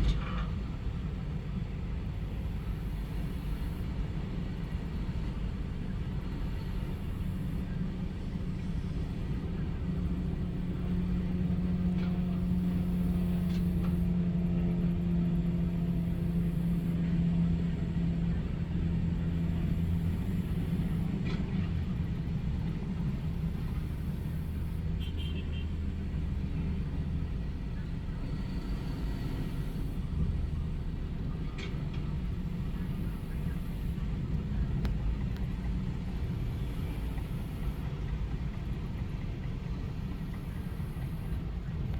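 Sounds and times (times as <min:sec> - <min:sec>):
diesel machinery engine drone: 0:00.0 - 0:41.9.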